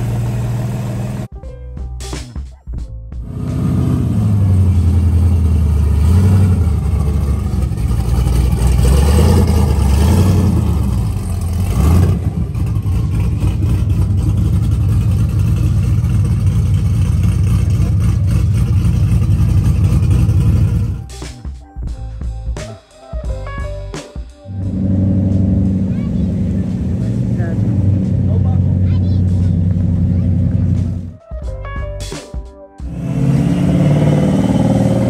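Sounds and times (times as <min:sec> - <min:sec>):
muscle car engines revving: 0:00.0 - 0:01.3, 0:03.2 - 0:21.2, 0:24.5 - 0:31.1, 0:32.8 - 0:35.0.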